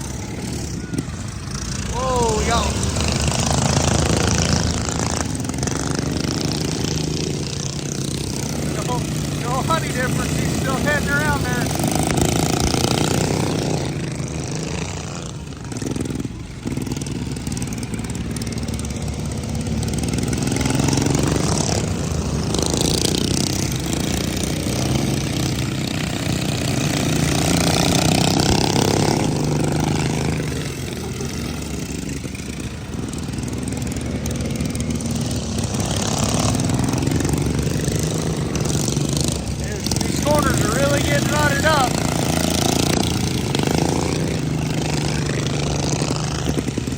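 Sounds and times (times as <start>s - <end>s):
racing lawn mower engines: 0.0s - 46.9s.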